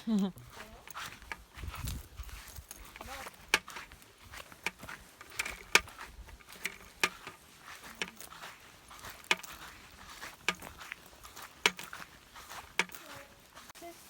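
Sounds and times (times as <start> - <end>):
footsteps clicking: 0.0 - 14.0.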